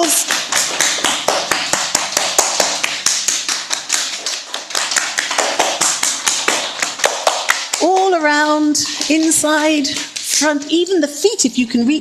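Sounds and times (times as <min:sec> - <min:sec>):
hands slapping legs: 0:00.0 - 0:10.6.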